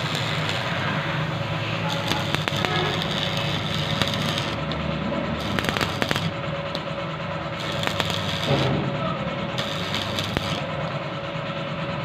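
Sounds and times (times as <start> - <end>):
welding arc crackling and popping: 0.0 - 8.8, 9.5 - 11.0
machine hum: 0.0 - 12.0.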